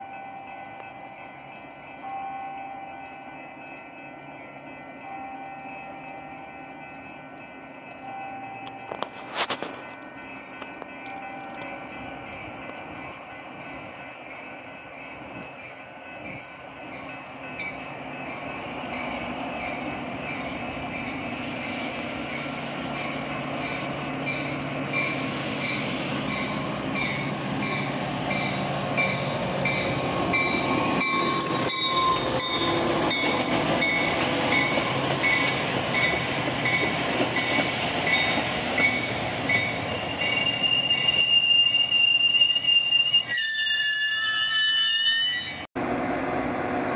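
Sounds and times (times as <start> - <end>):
train rumble: 0.0 - 43.4, 45.4 - 46.9.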